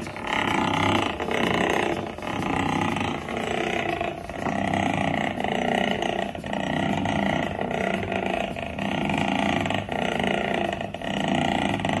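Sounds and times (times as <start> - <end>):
small steam engine running: 0.0 - 12.0.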